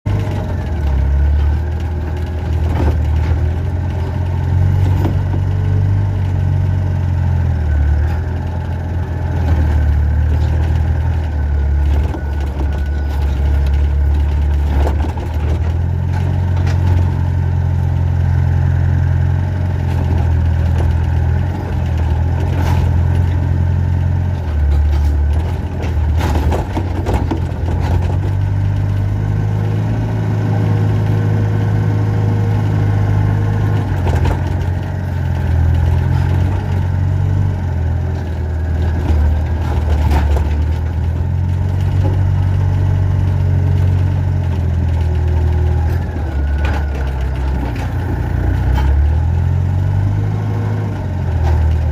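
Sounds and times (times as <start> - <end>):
excavator diesel engine running: 0.1 - 51.9.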